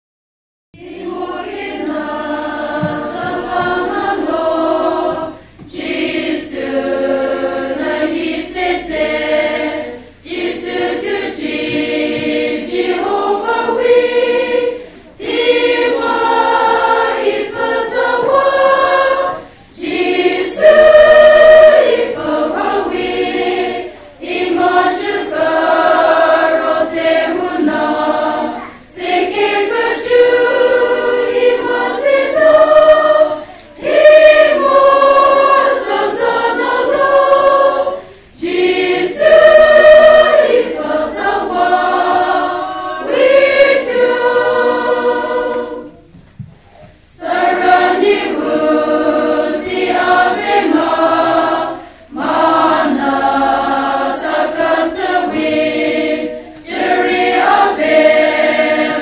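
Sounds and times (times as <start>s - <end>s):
women's choir singing: 0.8s - 59.0s.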